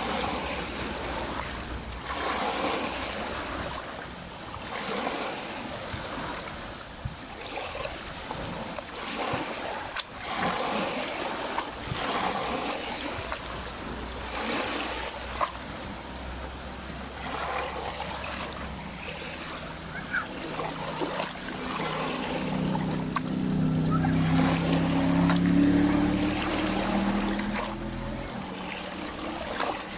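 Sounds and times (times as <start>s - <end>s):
lake waves lapping at shore: 0.0s - 29.9s
motorboat engine hum: 0.0s - 29.9s.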